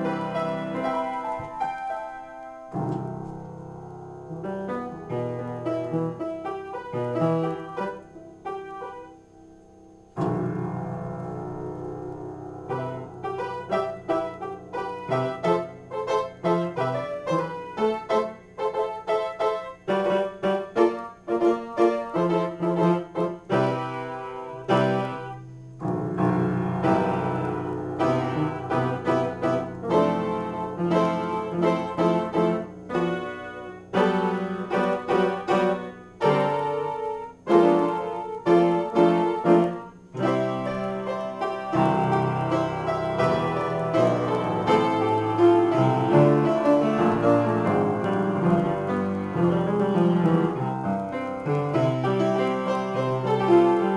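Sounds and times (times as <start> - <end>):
solo piano improvisation: 0.0 - 53.9.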